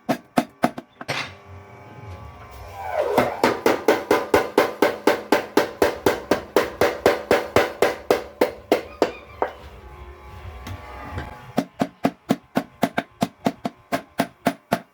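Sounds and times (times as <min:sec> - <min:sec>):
power hammer striking metal: 0:00.0 - 0:01.5, 0:02.8 - 0:09.7, 0:11.1 - 0:14.9.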